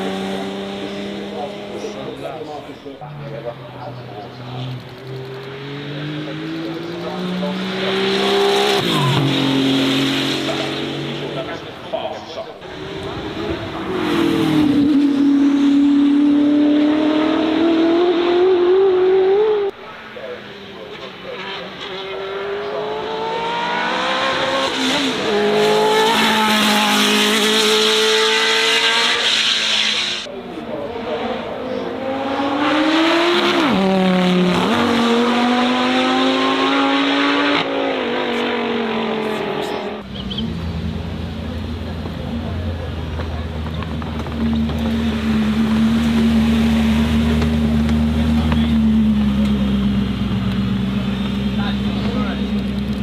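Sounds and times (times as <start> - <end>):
racing car engine accelerating: 0.0 - 2.4, 3.1 - 12.0, 12.6 - 19.8, 20.7 - 53.0.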